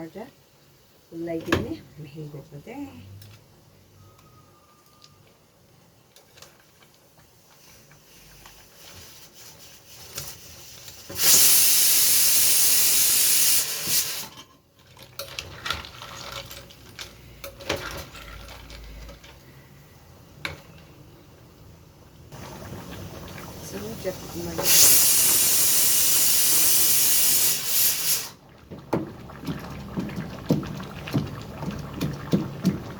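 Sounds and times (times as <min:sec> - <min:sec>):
cooking hiss on stove: 0:00.0 - 0:15.3, 0:16.5 - 0:32.9.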